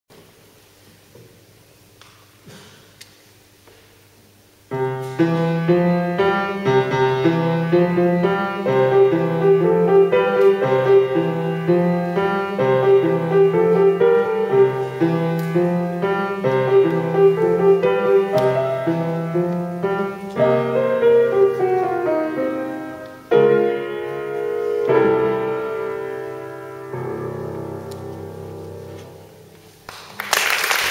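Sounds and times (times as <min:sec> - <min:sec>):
upright piano blues tune: 0:04.7 - 0:29.8.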